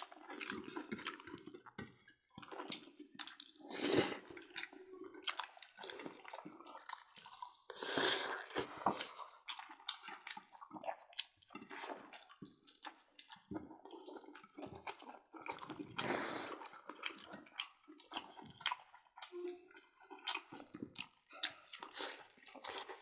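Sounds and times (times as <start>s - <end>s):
people chewing with wet smacks: 0.0s - 23.0s.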